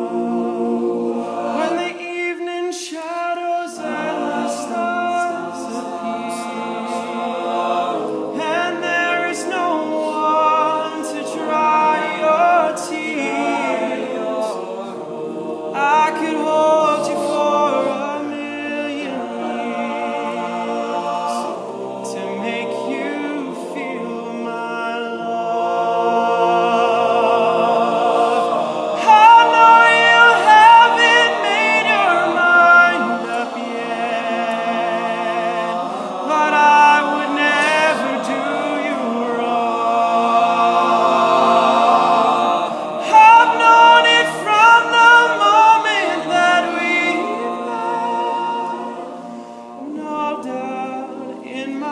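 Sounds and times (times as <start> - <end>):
male a cappella group singing: 0.0 - 51.9.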